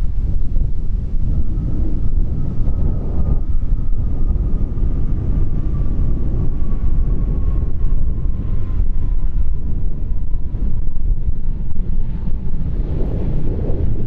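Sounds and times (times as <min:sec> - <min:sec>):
high engine whine: 0:00.0 - 0:14.0
jet engines rumbling: 0:00.0 - 0:14.0.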